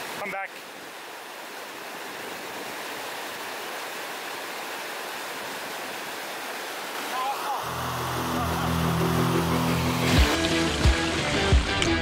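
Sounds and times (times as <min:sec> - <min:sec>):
river rushing over rocks: 0:00.0 - 0:11.6.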